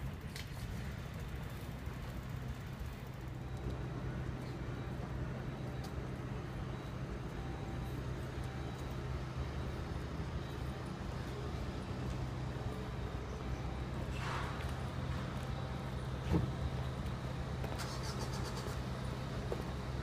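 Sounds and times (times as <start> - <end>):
faint street background: 0.0 - 20.0
tram humming: 0.0 - 20.0.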